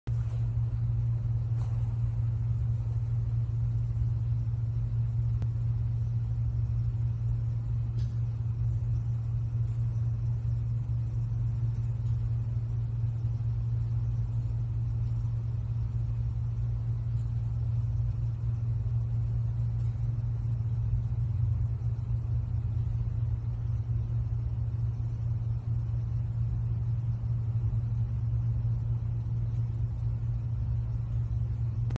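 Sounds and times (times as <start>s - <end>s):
low rumbling hum: 0.1s - 31.9s.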